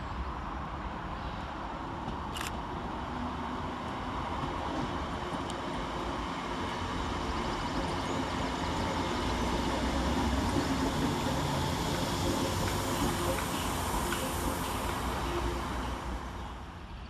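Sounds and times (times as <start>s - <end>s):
train wheels rumbling: 3.0s - 17.0s.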